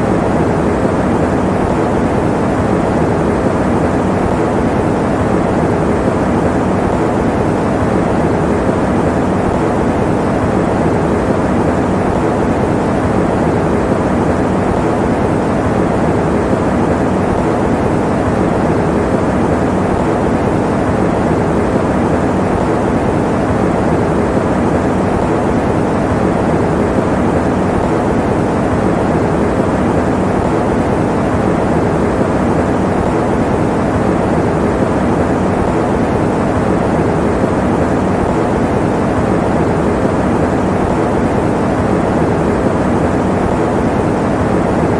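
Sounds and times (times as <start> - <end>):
electric fan running: 0.0 - 44.9.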